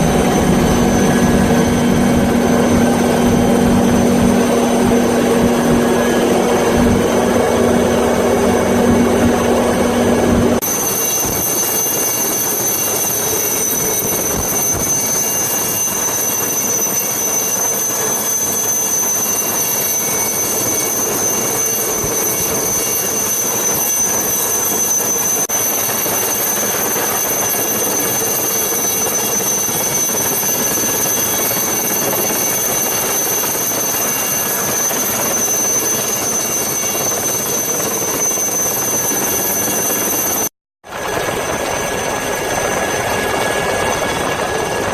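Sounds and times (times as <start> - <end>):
helicopter engine and rotor: 0.0 - 44.9
high-pitched turbine whine: 0.0 - 44.9.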